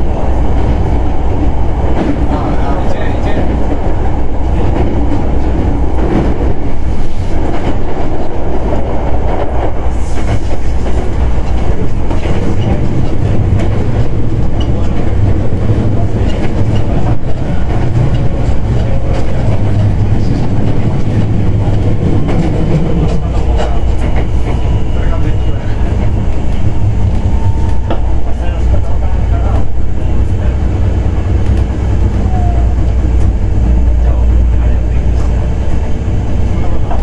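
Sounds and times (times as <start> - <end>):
clickety-clack of rail joints: 0.0 - 37.0
train wheels rumbling on rail: 0.0 - 37.0.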